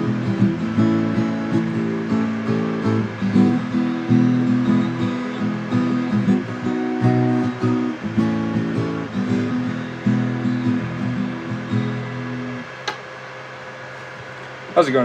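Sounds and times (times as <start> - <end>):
strummed acoustic guitar chords: 0.0 - 14.4.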